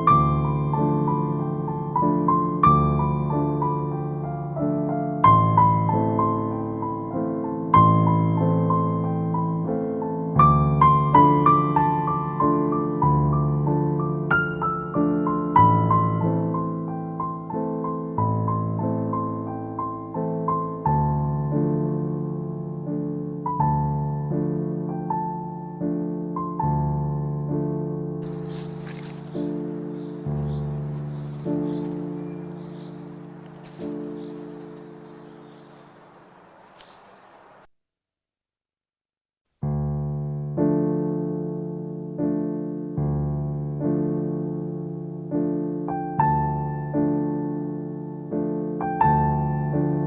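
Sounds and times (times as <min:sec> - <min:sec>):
gentle piano music: 0:00.0 - 0:37.7, 0:39.6 - 0:50.0.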